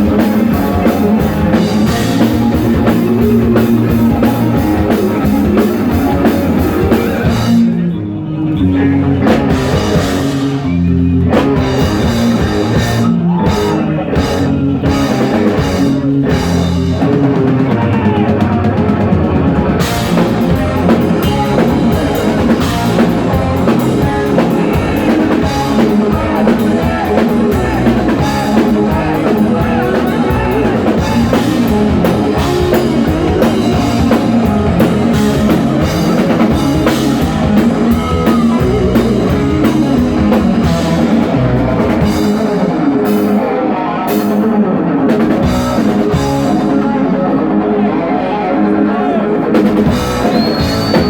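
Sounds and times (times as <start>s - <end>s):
heavy metal band playing live: 0.0s - 51.0s.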